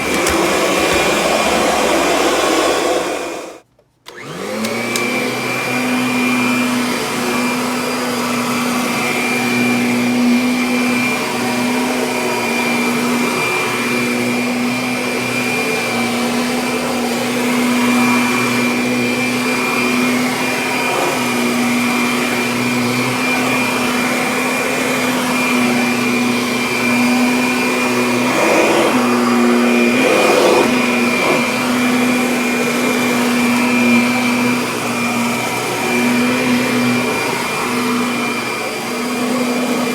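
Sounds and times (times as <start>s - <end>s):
vacuum cleaner whining hum: 0.0s - 39.9s.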